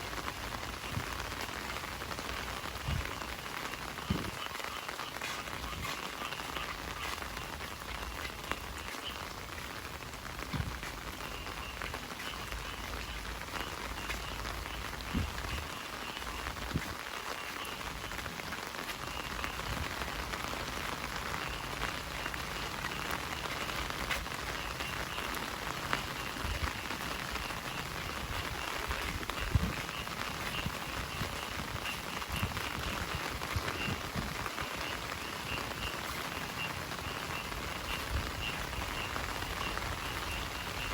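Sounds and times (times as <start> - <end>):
heavy rain falling: 0.0 - 40.9
loud raindrops striking nearby: 0.0 - 40.9.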